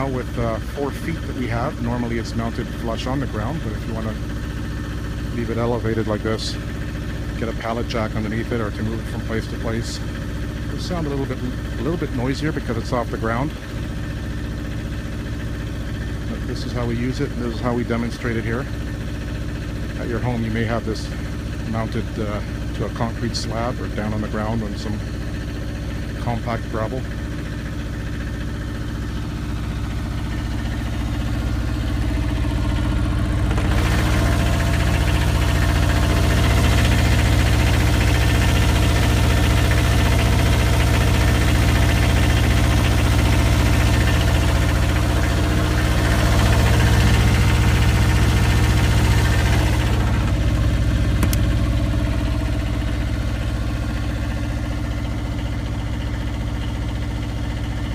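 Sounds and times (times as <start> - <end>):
diesel generator running: 0.0 - 57.9.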